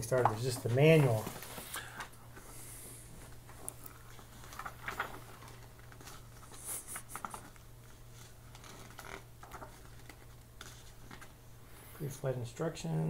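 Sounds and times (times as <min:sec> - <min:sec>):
paper pages rustling: 0:00.0 - 0:02.6, 0:03.2 - 0:11.4
low steady hum: 0:00.0 - 0:13.0.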